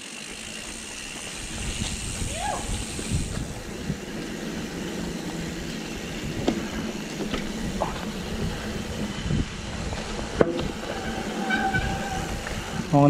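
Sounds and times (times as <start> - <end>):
bike tyre riding noise: 0.0 - 13.0
bike knocks and rattles: 0.3 - 13.0.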